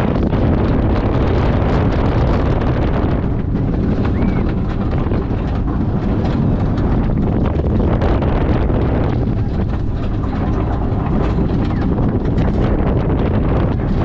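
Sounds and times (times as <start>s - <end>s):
roller coaster wheels rumbling: 0.0s - 14.0s
wind rushing over microphone: 0.0s - 14.0s.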